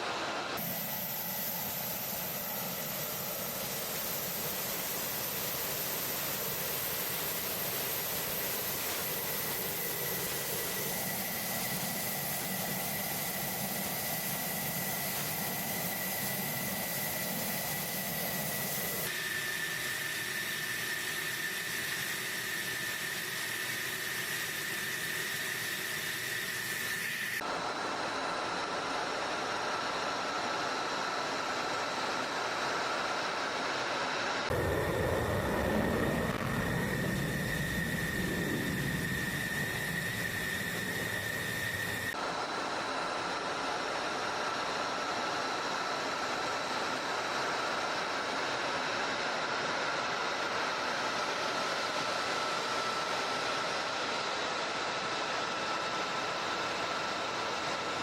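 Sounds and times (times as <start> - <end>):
jet engine hiss and whine: 0.0 - 58.0.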